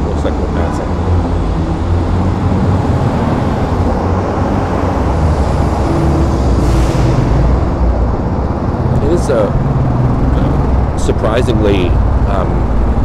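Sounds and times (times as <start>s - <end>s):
motorcycle engine rumbling in tunnel: 0.0s - 13.0s
traffic noise: 0.0s - 13.0s.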